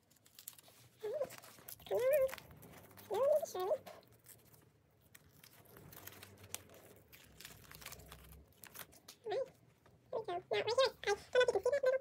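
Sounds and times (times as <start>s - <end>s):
sheet crinkling and rustling: 0.0s - 10.0s.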